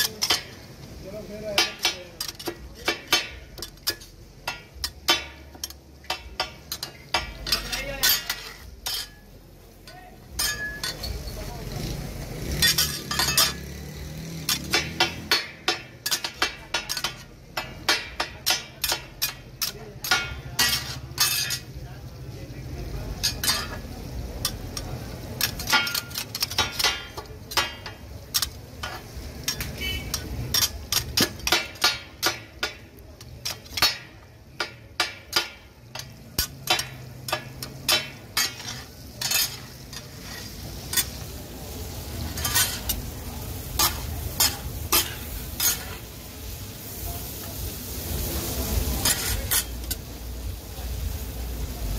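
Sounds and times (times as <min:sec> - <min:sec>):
metal spatulas clacking on griddle: 0:00.0 - 0:21.8, 0:23.1 - 0:46.2, 0:48.8 - 0:50.2
frying sizzle: 0:00.0 - 0:51.9.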